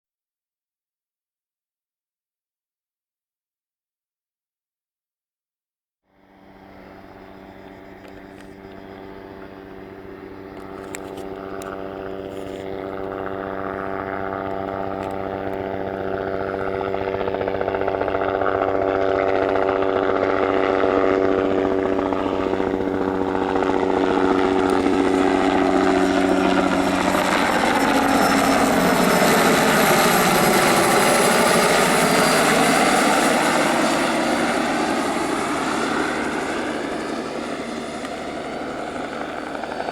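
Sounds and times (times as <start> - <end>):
helicopter rotor and turbine: 6.1 - 39.9.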